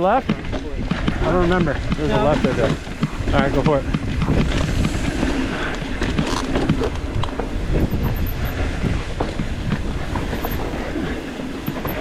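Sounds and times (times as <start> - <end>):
bike rattling over bumps: 0.0 - 12.0
wind buffeting microphone: 0.0 - 12.0.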